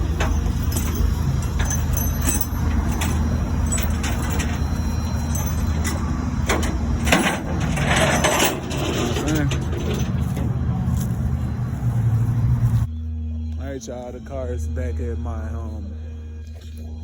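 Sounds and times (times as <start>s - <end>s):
vehicle engine rumble: 0.0s - 15.9s.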